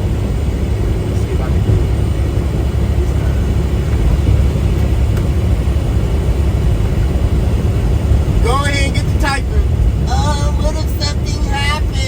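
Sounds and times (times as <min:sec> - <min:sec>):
road noise inside cab: 0:00.0 - 0:12.0
truck engine rumble: 0:00.0 - 0:12.0.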